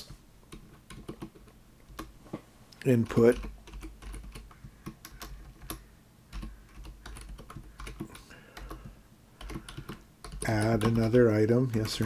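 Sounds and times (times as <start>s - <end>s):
computer keyboard typing: 0.5s - 2.1s, 3.0s - 12.0s.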